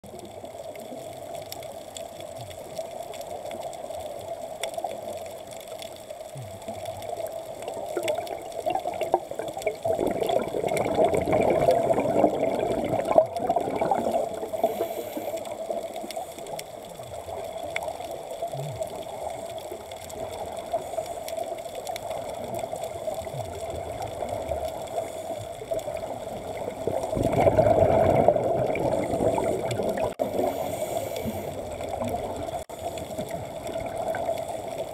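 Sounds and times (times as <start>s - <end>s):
steady underwater hum: 0.0s - 34.9s
divers exhaling bubbles underwater: 6.3s - 34.9s.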